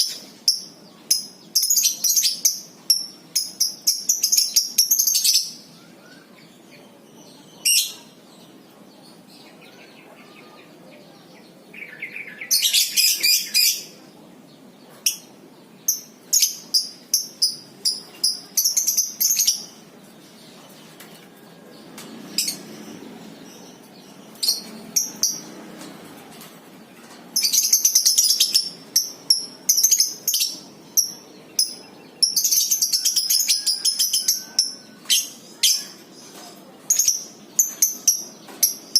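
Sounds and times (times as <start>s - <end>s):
lovebirds chattering trills: 0.0s - 38.9s.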